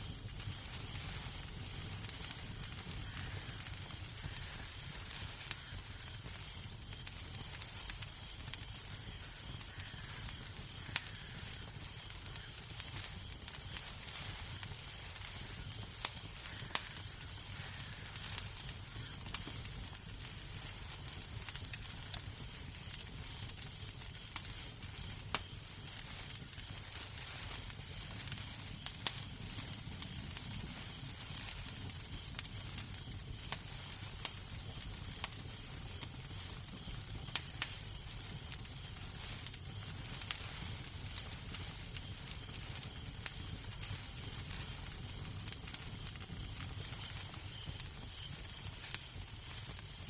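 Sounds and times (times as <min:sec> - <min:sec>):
fire hiss: 0:00.0 - 0:50.0
wood fire crackling: 0:00.0 - 0:50.0.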